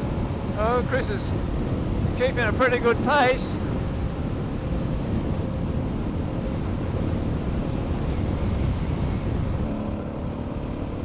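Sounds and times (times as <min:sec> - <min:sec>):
wind rush on microphone: 0:00.0 - 0:11.0.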